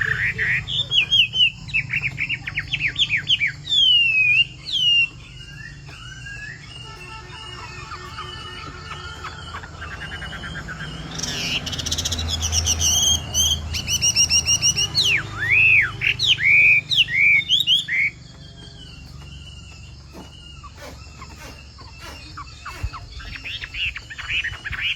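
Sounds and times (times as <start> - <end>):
bird singing trills and whistles: 0.0 - 24.9.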